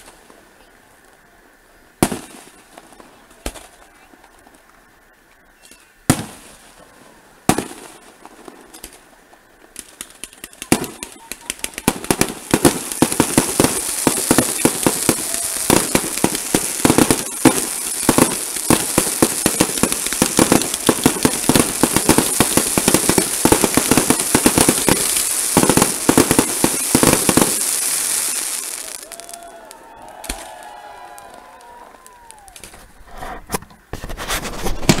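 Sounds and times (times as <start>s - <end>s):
fireworks popping and crackling: 0.0s - 35.0s
firework bangs: 2.0s - 4.6s, 6.0s - 33.6s, 34.4s - 35.0s.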